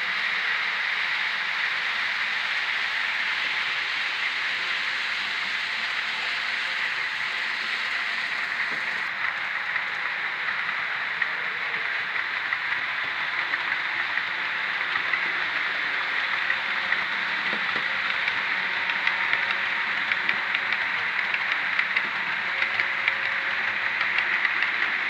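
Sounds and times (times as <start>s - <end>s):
model train motor whirring: 0.0s - 25.0s.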